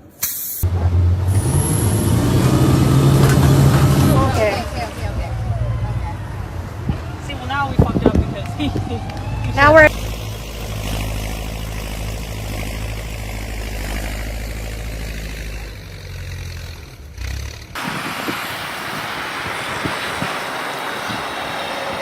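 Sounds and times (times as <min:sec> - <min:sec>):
heavy vehicle engine rumble: 0:00.0 - 0:22.0.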